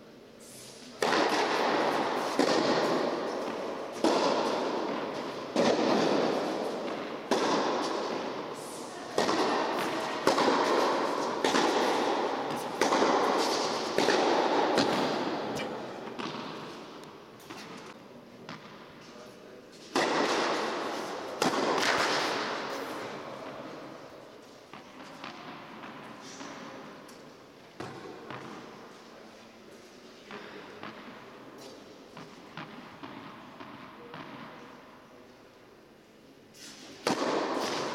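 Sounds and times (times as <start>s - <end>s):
tennis racket hits echoing: 0.6s - 19.1s, 19.7s - 28.9s, 30.3s - 35.4s, 36.6s - 37.9s.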